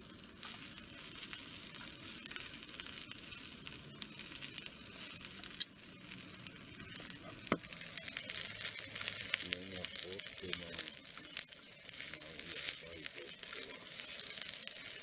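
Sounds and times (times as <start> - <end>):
noodles sizzling in a pan: 0.0 - 15.0.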